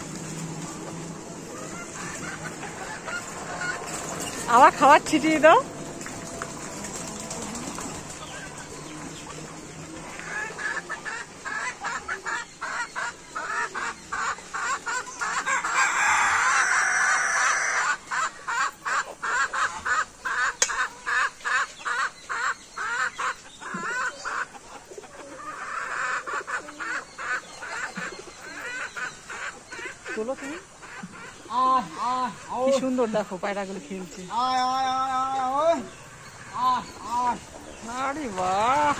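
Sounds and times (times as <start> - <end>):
chickens clucking and cackling: 0.0 - 38.9.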